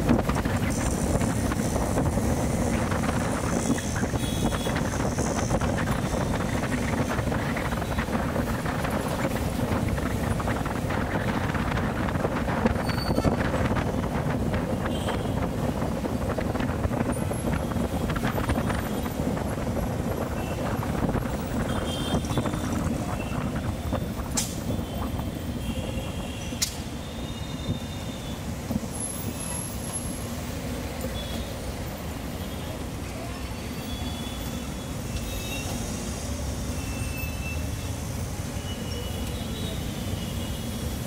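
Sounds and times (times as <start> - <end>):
city traffic: 0.0 - 41.0
road and wind noise: 0.0 - 41.0.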